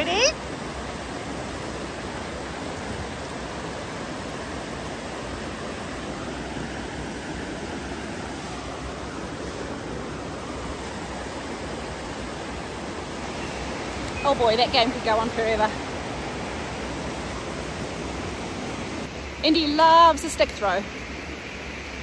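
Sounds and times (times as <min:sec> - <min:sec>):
stream rushing over stones: 0:00.0 - 0:22.0.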